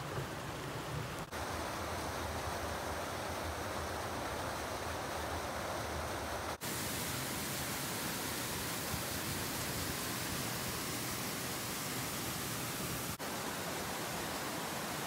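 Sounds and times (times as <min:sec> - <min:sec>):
waterfall rushing: 0:01.2 - 0:15.0.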